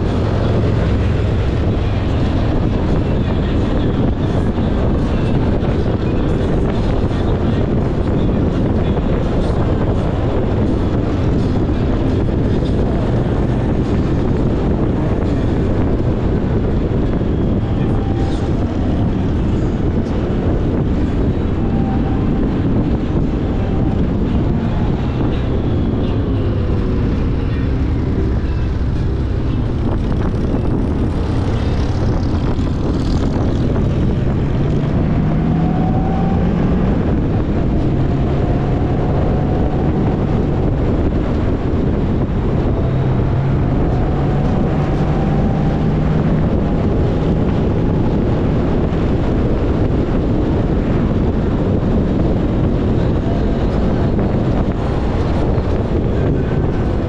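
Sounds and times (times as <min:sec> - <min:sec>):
wind rush: 0:00.0 - 0:57.0.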